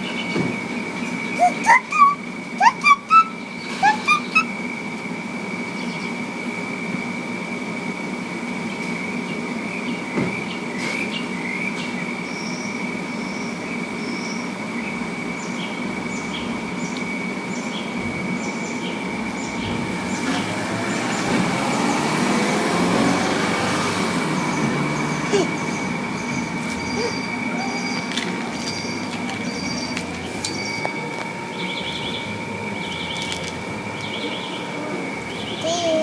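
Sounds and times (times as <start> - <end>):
high-pitched mechanical whine: 0.0 - 36.0.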